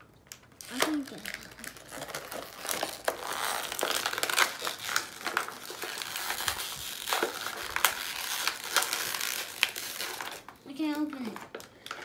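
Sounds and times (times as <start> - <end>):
plastic packaging crinkling: 0.1 - 12.0.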